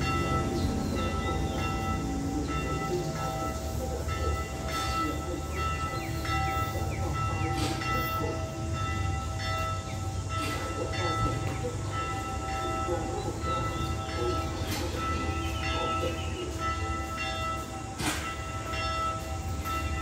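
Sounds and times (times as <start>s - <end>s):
church bell tolling: 0.0s - 20.0s
low rumble of train: 0.0s - 20.0s.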